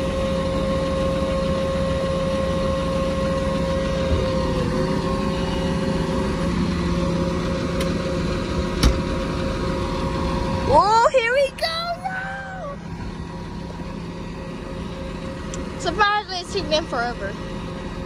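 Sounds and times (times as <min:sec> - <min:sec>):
diesel engine idling: 0:00.0 - 0:18.0
engine whine: 0:00.0 - 0:18.0.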